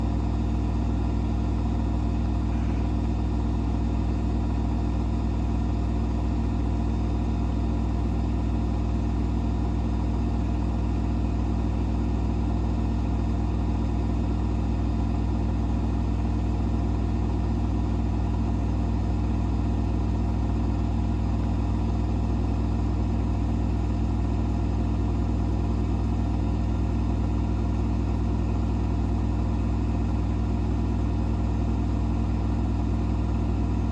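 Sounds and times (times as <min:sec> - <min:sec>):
washing machine spin hum: 0:00.0 - 0:33.9.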